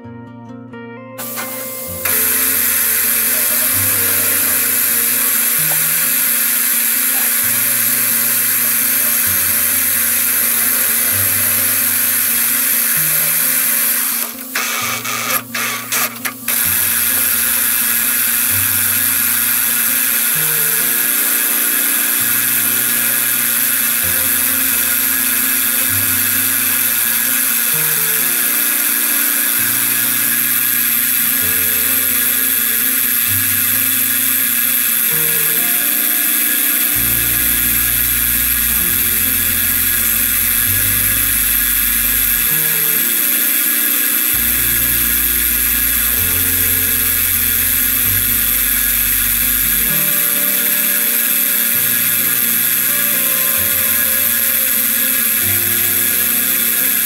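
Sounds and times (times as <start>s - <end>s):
background music with bassline: 0.0s - 43.4s, 44.3s - 57.0s
milling machine cutting steel: 1.2s - 57.0s.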